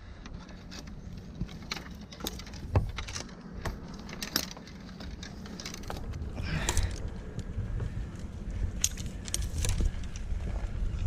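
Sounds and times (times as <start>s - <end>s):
climbing hardware clinking: 0.0s - 10.6s
low hum: 0.0s - 11.0s.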